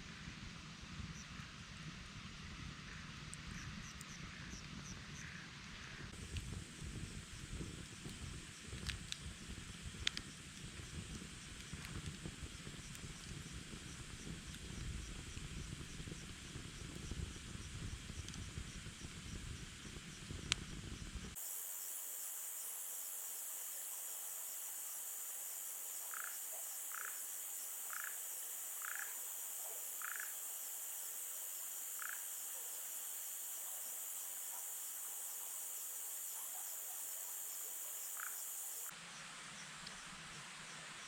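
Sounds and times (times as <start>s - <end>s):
crickets trilling: 6.4s - 39.2s.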